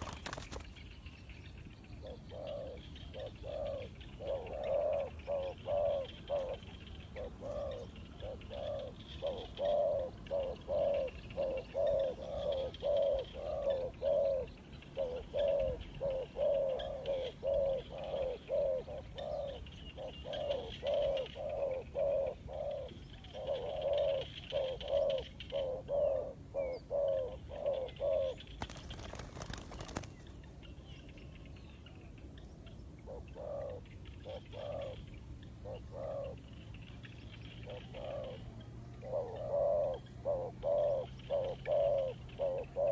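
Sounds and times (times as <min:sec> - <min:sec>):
dove cooing: 0:02.0 - 0:30.3, 0:33.0 - 0:42.9.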